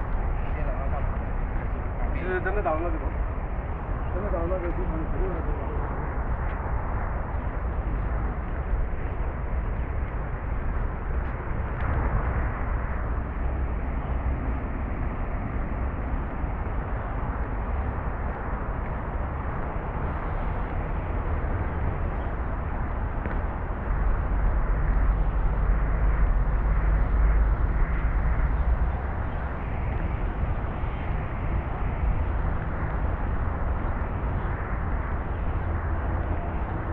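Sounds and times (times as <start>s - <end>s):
outdoor rumble and hiss: 0.0s - 36.9s.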